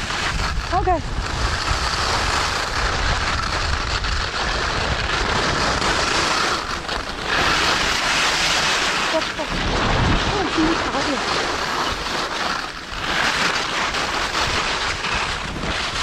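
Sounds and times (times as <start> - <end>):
skis scraping over snow: 0.0 - 16.0
wind on microphone: 0.0 - 16.0.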